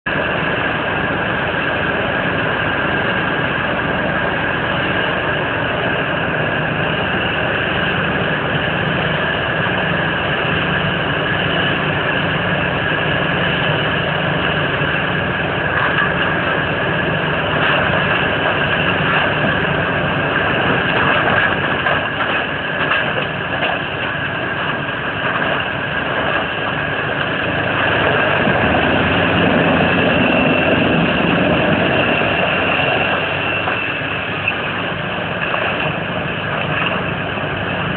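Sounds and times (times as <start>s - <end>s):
wood chipper droning with whine: 0.0s - 37.9s
wood crackling and knocking in chipper: 0.1s - 37.9s.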